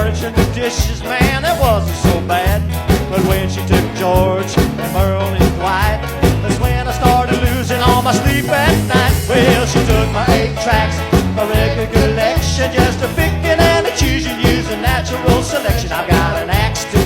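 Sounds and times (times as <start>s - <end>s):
song with beat and bass: 0.0s - 17.0s.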